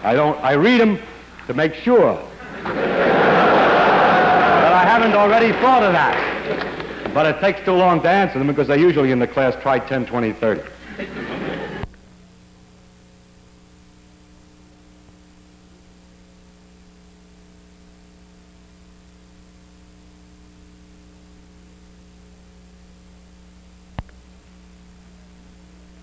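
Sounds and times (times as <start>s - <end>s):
background hiss: 0.0s - 26.0s
electrical mains hum: 0.0s - 26.0s.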